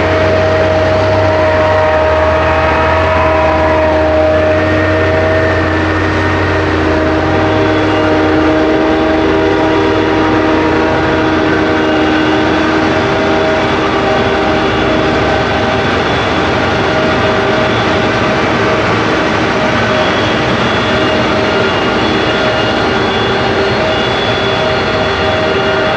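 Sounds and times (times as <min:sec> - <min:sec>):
heavy machinery engine drone: 0:00.0 - 0:25.9
machinery whining tones: 0:00.0 - 0:25.9.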